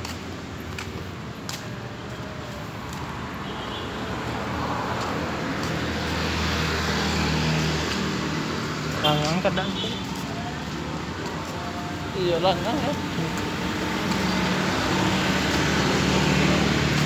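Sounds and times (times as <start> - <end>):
vehicle engine and tyre noise: 0.0 - 17.0.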